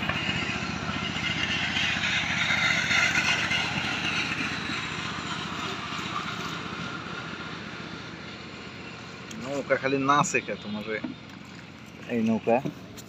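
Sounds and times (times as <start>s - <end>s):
small boat engine running: 0.0s - 13.0s.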